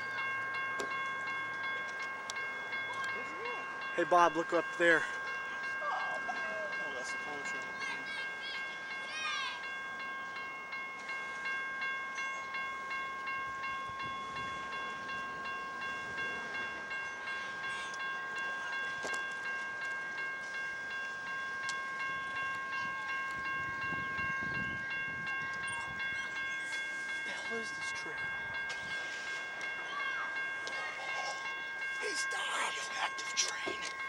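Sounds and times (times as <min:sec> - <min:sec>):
train wheels ringing whine: 0:00.0 - 0:34.0.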